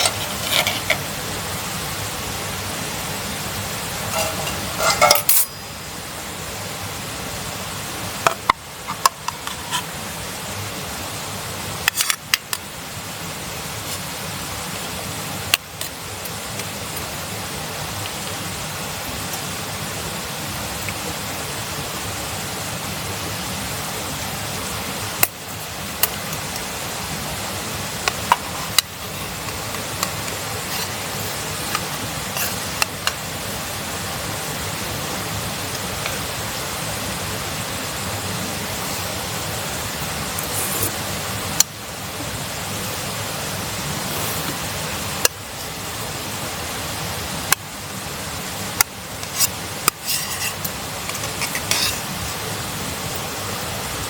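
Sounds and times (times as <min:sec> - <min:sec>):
food sizzling over campfire: 0:00.0 - 0:54.0.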